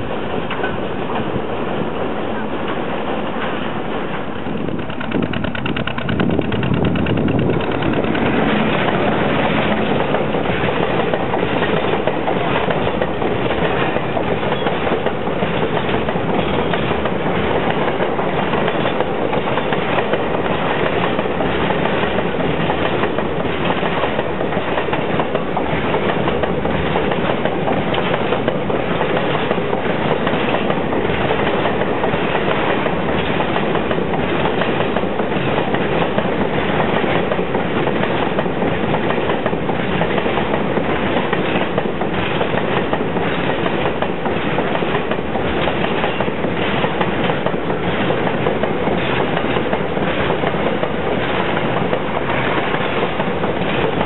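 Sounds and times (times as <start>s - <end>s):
train wheels rumbling on rails: 0.0s - 54.0s
wheels clickety-clack on rail joints: 0.0s - 54.0s.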